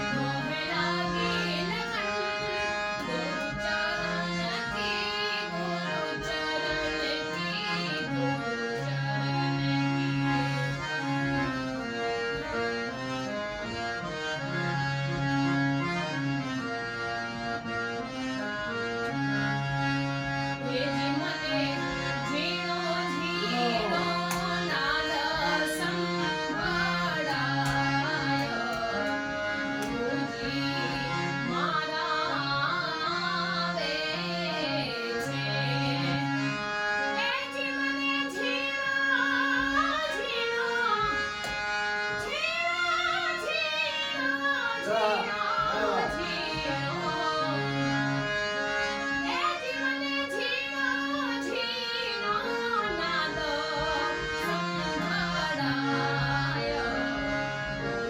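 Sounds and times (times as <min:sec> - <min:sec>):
sustained instrumental chords: 0:00.0 - 0:58.0
woman singing devotional song: 0:00.0 - 0:58.0.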